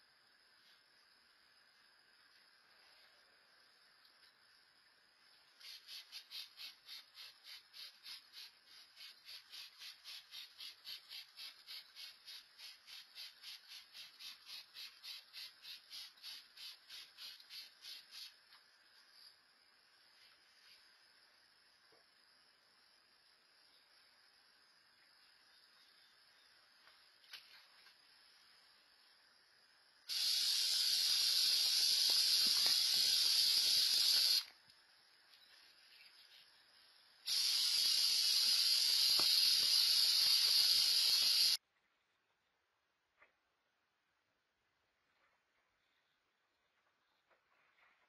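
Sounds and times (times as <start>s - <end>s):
faint hiss: 0.0s - 41.6s
insect chirping: 0.0s - 41.6s, 45.0s - 47.8s.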